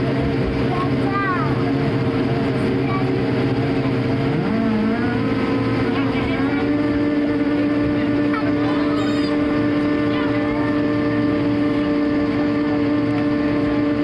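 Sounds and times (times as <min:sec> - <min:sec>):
aircraft engines humming: 0:00.0 - 0:14.0.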